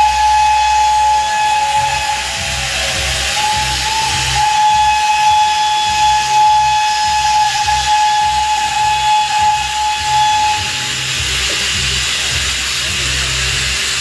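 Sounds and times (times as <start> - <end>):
steam hissing: 0.0 - 14.0
steam locomotive whistle: 0.0 - 14.0.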